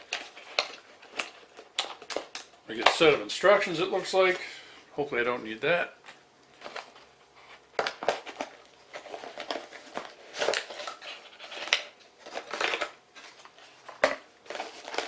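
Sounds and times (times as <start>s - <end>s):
packaging rustling and crinkling: 0.0s - 4.5s, 6.0s - 15.0s.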